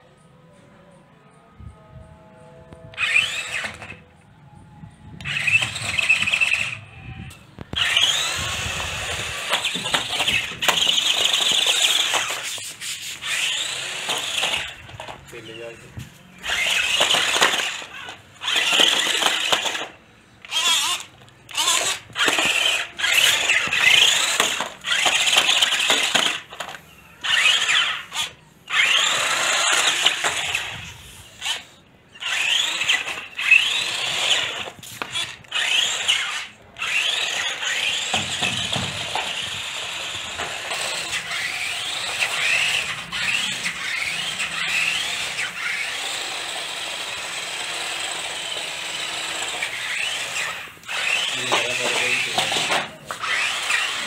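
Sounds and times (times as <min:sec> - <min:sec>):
rc car motors whining: 0:02.6 - 0:04.3, 0:05.1 - 0:54.0.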